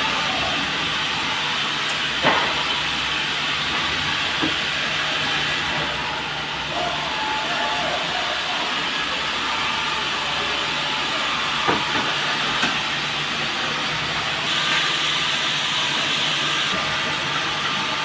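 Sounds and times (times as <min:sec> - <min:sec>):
sawmill running: 0:00.0 - 0:18.0.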